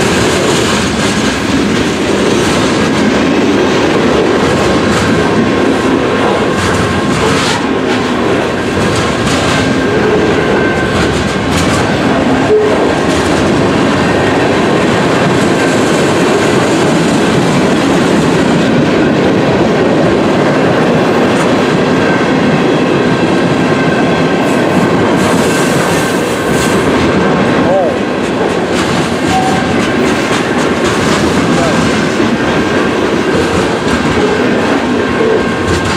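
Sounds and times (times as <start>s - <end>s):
steel wheels on rails: 0.0s - 35.9s.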